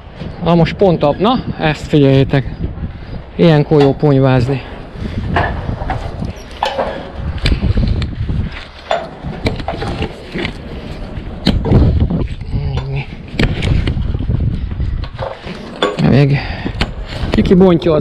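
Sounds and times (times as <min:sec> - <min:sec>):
gusty wind on microphone: 0:00.0 - 0:18.0.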